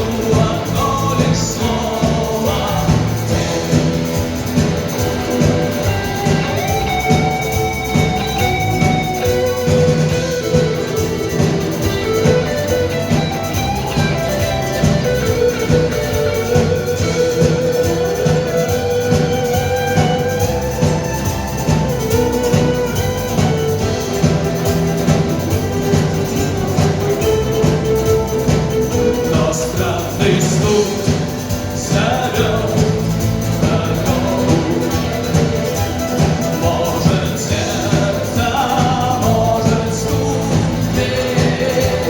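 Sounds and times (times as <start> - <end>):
lead guitar melody: 0.0 - 42.0
live band playing: 0.0 - 42.0.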